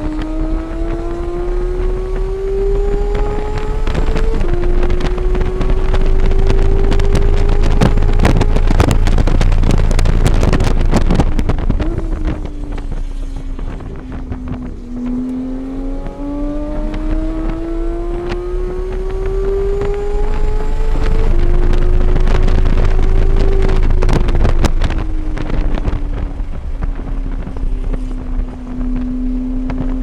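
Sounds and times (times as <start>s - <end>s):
race car engine revving: 0.0s - 30.0s
wind buffeting microphone: 0.0s - 30.0s.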